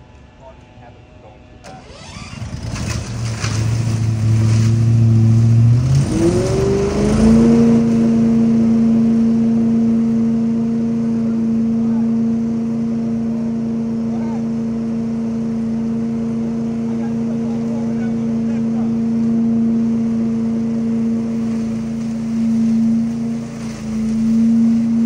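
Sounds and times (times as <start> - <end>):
leaf vacuum engine revving: 1.6 - 25.0.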